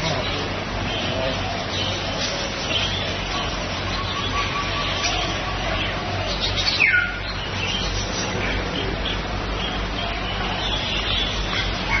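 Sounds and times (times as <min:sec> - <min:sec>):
birds chirping and twittering: 0:00.0 - 0:12.0
steady low hum: 0:00.0 - 0:12.0.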